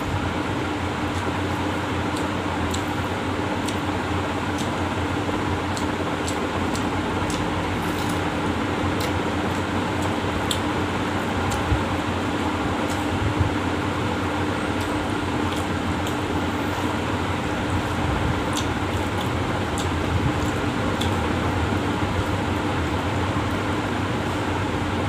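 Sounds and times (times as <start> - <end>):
machine hum: 0.0 - 25.0
fingers mashing wet rice: 1.0 - 24.8.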